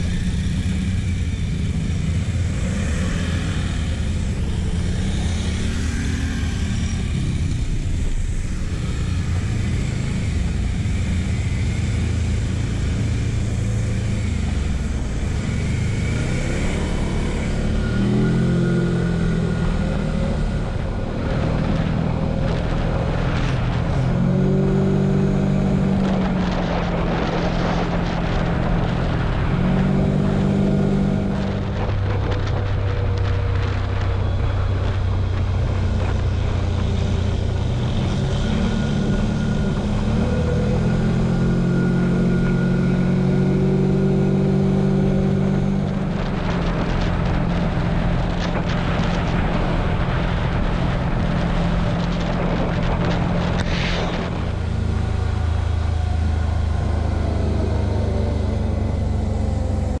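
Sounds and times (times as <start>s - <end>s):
quad engine running: 0.0s - 60.0s
wind and road noise: 0.0s - 60.0s.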